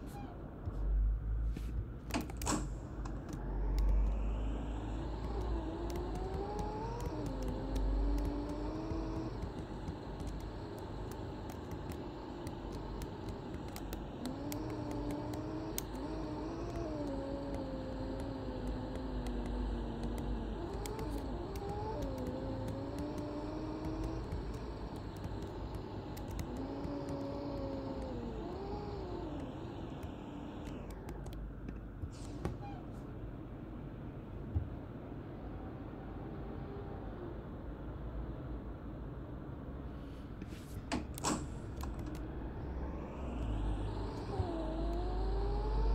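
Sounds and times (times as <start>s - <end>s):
drivetrain whine: 0.0s - 39.7s, 40.3s - 45.9s
bus engine rumble: 0.0s - 45.9s.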